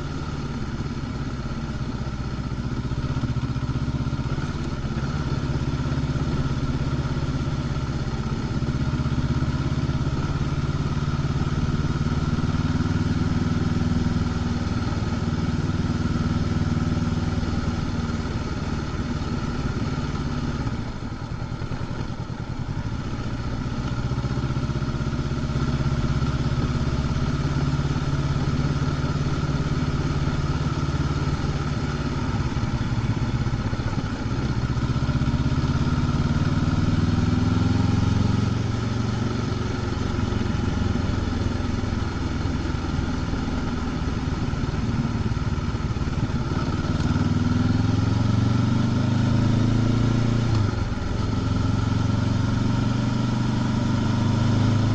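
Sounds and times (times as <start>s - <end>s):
motorcycle engine riding: 0.0s - 54.9s.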